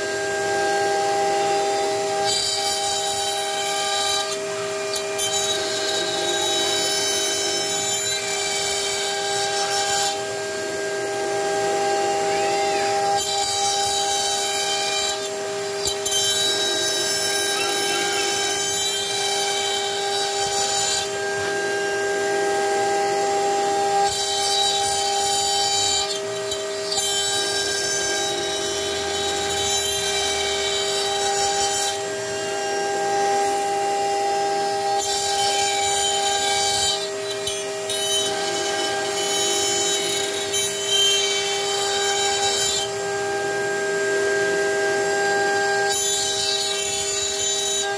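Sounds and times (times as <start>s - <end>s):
bit cutting wood: 0.0s - 47.9s
router spindle whining: 0.0s - 47.9s.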